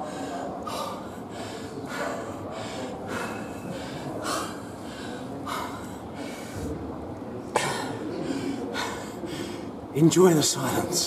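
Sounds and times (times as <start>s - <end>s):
man panting heavily: 0.0s - 6.7s, 7.6s - 9.8s.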